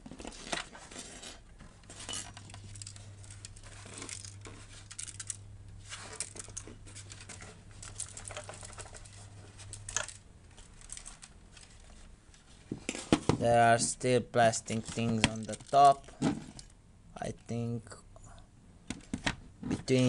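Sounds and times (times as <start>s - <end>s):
plastic parts clicking and rustling: 0.0s - 13.9s, 14.5s - 17.6s
low steady hum: 0.0s - 20.0s.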